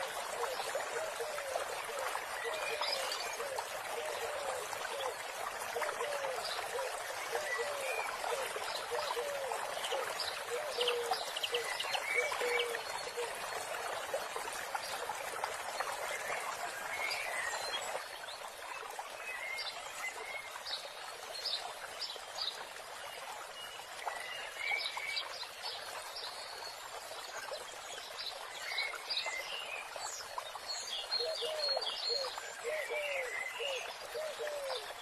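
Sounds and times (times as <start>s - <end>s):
running water: 0.0s - 35.0s.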